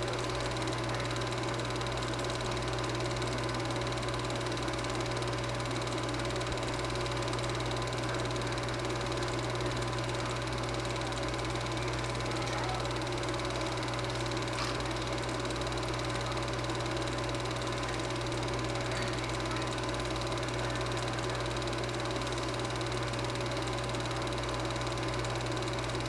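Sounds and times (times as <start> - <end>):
film projector humming and whirring: 0.0 - 26.0.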